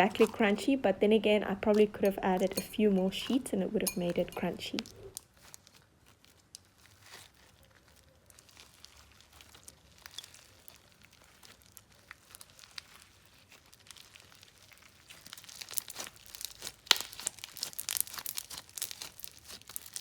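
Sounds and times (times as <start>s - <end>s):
slime crackling and popping: 0.0s - 20.0s.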